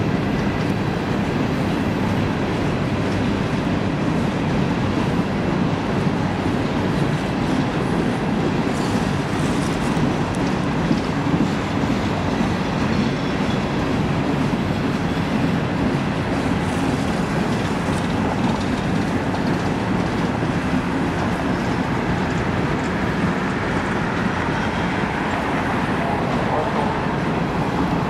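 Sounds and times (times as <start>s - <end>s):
freight train rumbling: 0.0s - 28.0s
steel wheels clattering on rails: 0.0s - 28.0s.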